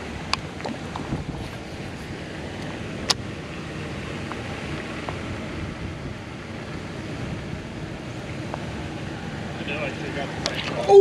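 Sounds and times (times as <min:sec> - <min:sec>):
wind on microphone: 0:00.0 - 0:09.6.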